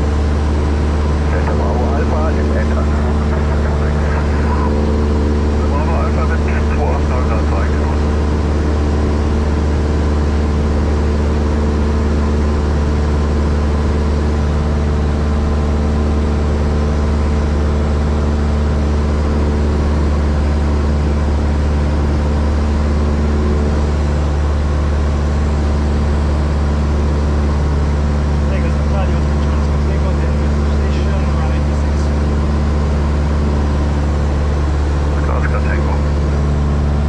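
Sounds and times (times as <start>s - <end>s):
airplane engine drone: 0.0s - 37.0s.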